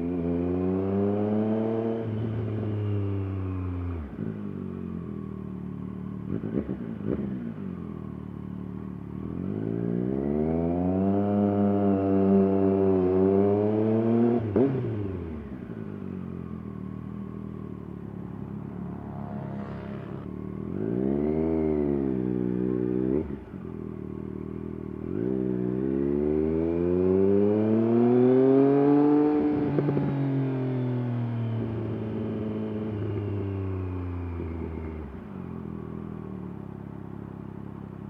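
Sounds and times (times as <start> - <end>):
motorcycle engine and exhaust: 0.0 - 38.0.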